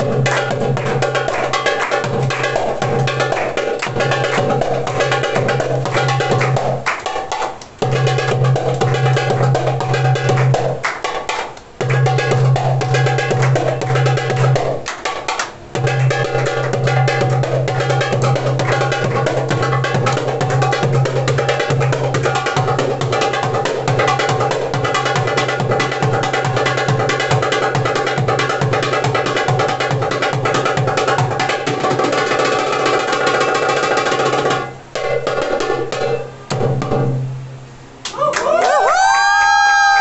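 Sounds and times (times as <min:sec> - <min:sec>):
darbuka rapid strokes: 0:00.0 - 0:37.8.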